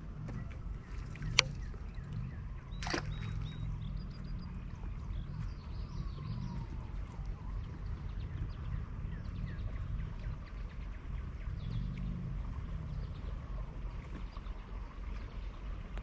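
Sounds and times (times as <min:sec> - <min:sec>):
water and wind rumble: 0:00.0 - 0:16.0
faint bird chirps: 0:00.3 - 0:14.6.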